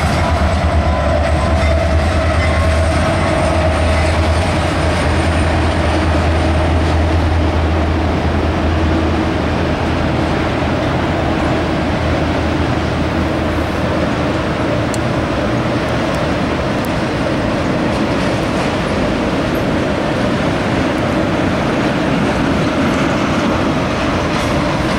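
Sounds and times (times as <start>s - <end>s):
diesel locomotive engine drone: 0.0s - 24.9s
train cars rumbling on rails: 0.0s - 24.9s.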